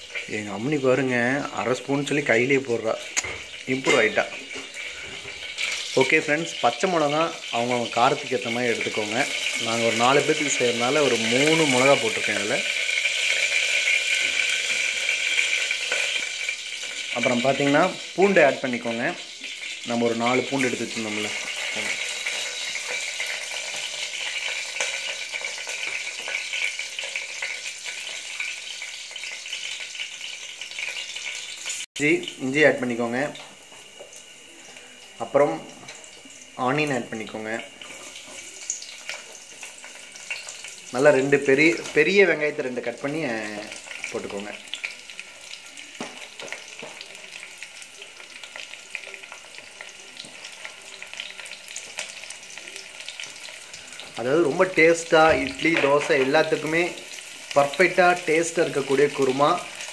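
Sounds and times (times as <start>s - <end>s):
hot oil sizzling and crackling: 0.0s - 59.9s.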